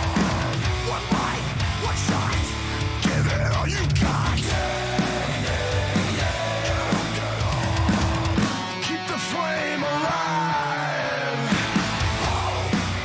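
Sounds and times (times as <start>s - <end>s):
heavy metal music: 0.0s - 13.0s.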